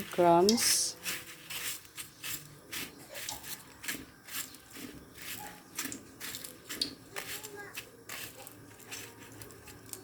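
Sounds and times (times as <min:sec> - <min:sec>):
chicken rustling in breadcrumbs: 0:00.0 - 0:10.0.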